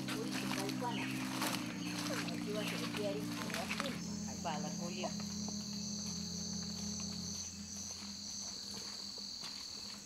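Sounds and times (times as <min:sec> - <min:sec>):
insects buzzing: 0:00.0 - 0:10.0
insects pulsing chirps: 0:00.0 - 0:10.0.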